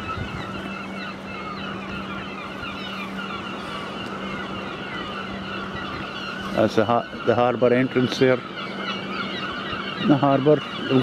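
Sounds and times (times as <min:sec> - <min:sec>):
distant flock of birds calling: 0:00.0 - 0:11.0.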